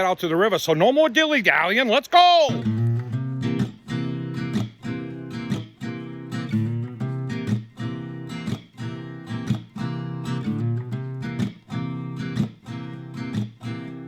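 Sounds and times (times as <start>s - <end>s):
strummed acoustic guitar chords: 2.5s - 14.0s.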